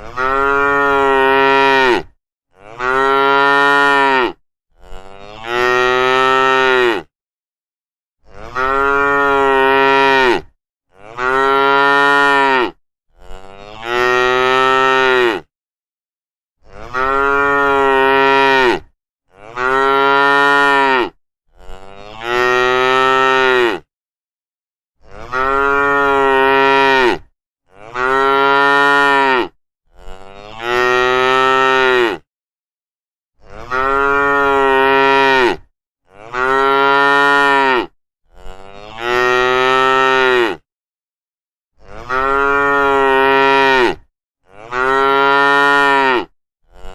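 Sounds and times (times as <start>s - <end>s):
cattle mooing: 0.0s - 7.1s, 8.2s - 15.5s, 16.7s - 23.8s, 25.1s - 32.2s, 33.4s - 40.6s, 41.9s - 46.9s.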